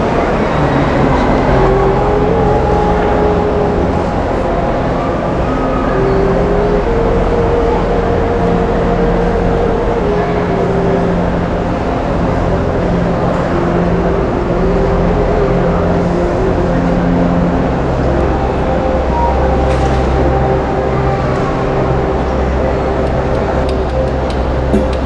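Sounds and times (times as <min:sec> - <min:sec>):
low crowd rumble: 0:00.0 - 0:25.0.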